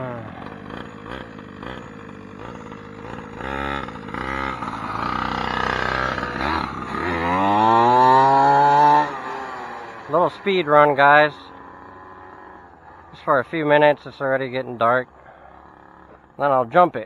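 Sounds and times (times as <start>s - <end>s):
rc truck engine revving: 0.0s - 16.9s.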